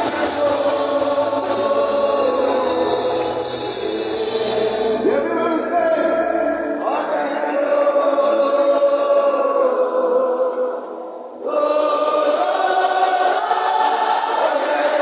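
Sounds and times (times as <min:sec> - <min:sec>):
crowd singing worship song: 0:00.0 - 0:15.0.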